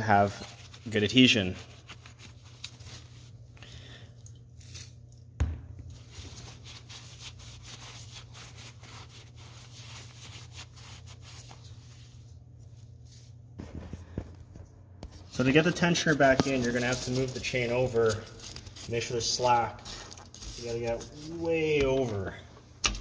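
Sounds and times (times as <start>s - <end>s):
wiping and rubbing on metal: 0.0s - 3.5s, 5.9s - 13.6s, 15.0s - 22.5s.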